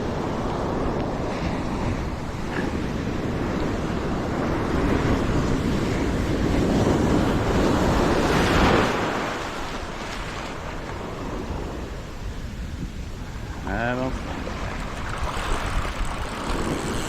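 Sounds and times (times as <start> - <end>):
ocean surf washing on beach: 0.0 - 17.0
wind buffeting microphone: 0.0 - 17.0.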